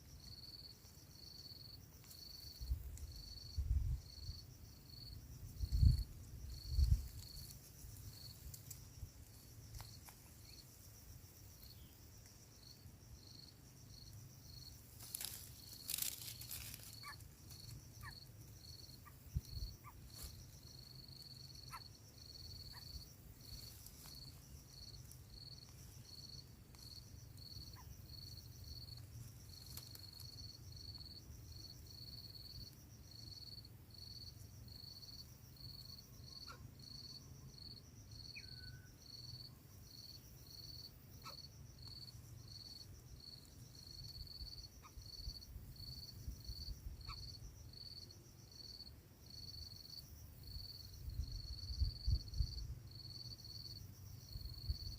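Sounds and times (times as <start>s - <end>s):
insect chirping in high pulses: 0.0s - 54.9s.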